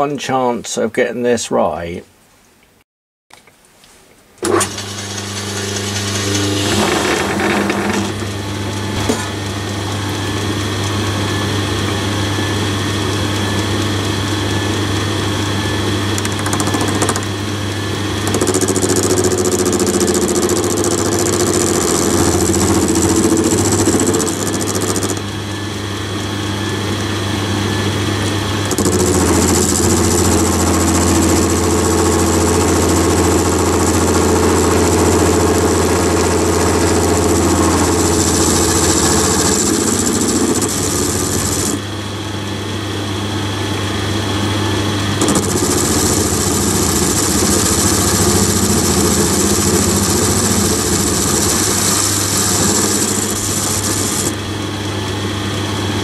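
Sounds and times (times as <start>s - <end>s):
lathe motor hum: 4.4s - 42.2s, 44.8s - 56.0s.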